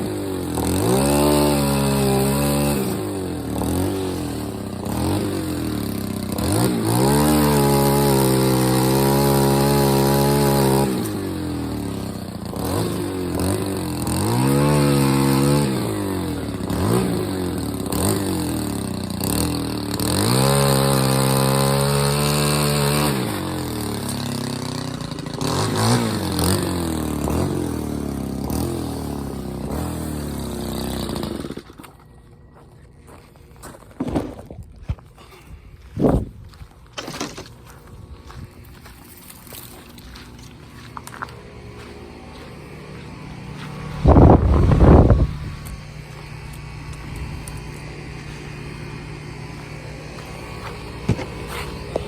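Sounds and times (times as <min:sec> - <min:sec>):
small petrol engine revving: 0:00.0 - 0:32.5, 0:37.0 - 0:52.0.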